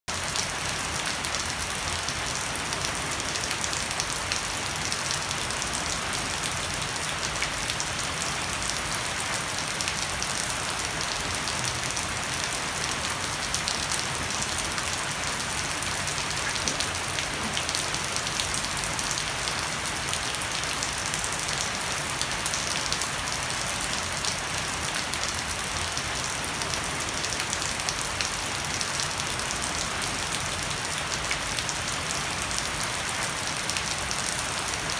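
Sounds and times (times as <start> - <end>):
heavy rain on deck and plants: 0.1 - 34.9.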